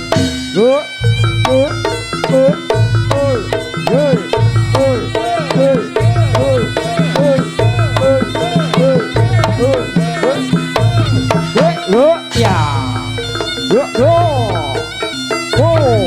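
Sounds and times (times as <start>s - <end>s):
rapid drum strokes: 0.0s - 16.0s
repeating gamelan melody: 0.0s - 16.0s.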